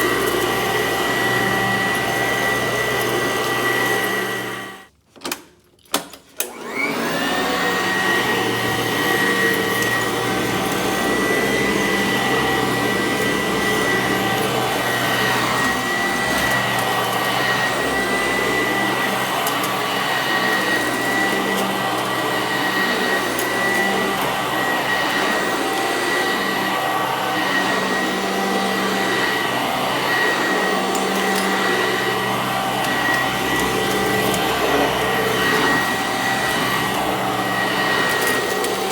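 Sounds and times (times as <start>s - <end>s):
vacuum cleaner motor whine: 0.0s - 4.9s, 6.4s - 38.9s.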